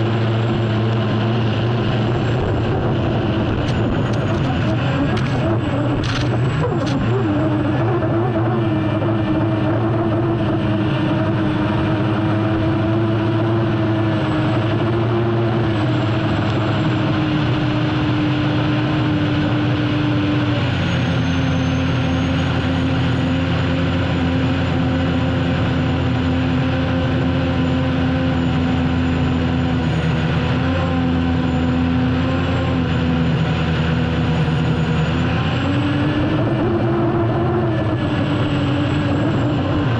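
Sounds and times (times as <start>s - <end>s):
turbine engine drone and whine: 0.0s - 39.9s.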